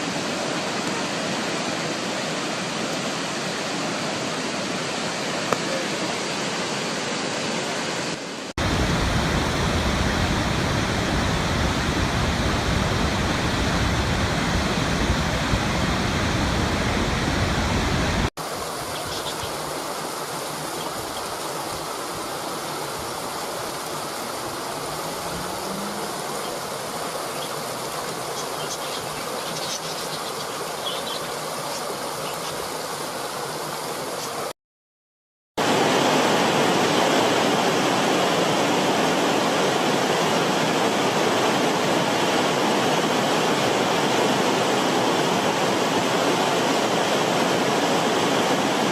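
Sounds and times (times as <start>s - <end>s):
rushing water: 0.0s - 34.6s, 35.6s - 48.9s.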